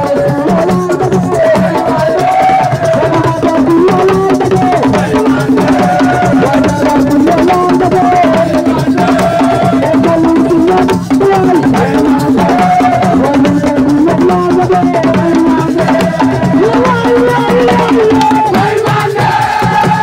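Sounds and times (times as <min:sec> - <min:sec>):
hand drum rhythm: 0:00.0 - 0:20.0.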